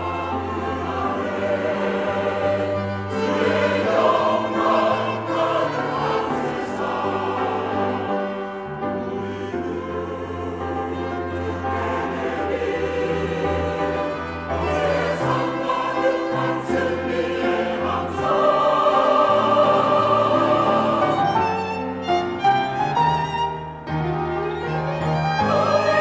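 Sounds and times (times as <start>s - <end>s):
choir singing: 0.0s - 26.0s
instrumental accompaniment: 0.0s - 26.0s.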